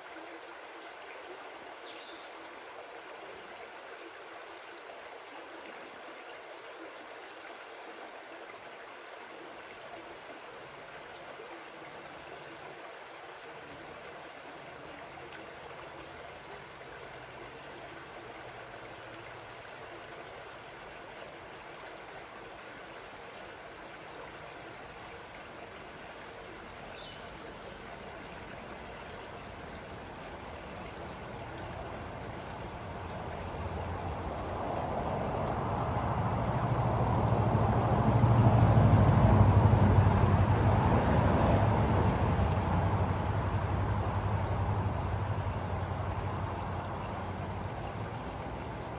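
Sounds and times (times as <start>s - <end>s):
creek water flowing over rocks: 0.0s - 48.9s.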